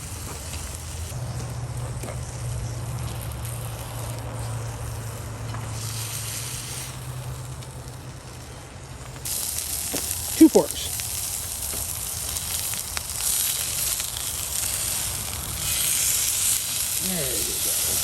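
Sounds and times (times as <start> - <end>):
burger patties sizzling on grill: 0.0 - 18.0.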